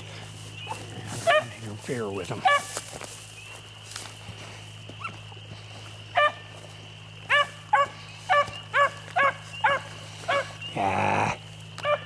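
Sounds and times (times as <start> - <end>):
hounds baying: 0.0 - 3.1, 4.0 - 12.0.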